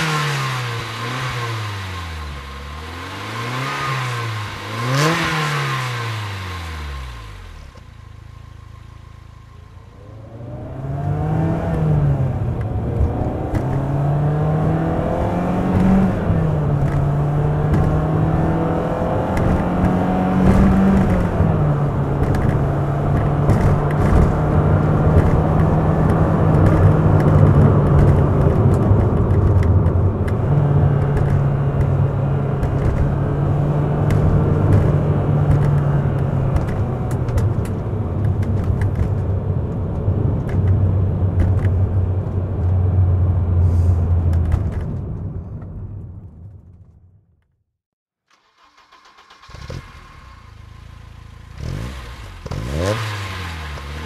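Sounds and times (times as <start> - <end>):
car engine running and revving: 0.0 - 46.9, 48.3 - 54.0.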